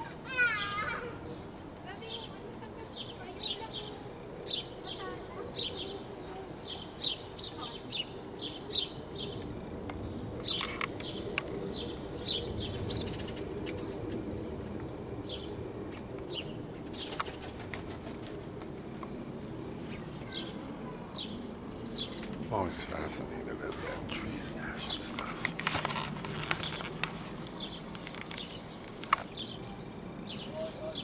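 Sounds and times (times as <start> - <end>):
low outdoor rumble: 0.0 - 31.0
small songbirds chirping: 0.0 - 31.0.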